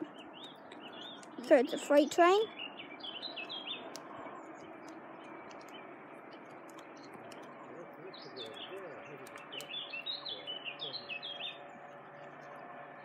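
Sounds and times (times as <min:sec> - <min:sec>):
faint outdoor hiss: 0:00.0 - 0:13.0
small birds chirping: 0:00.0 - 0:13.0.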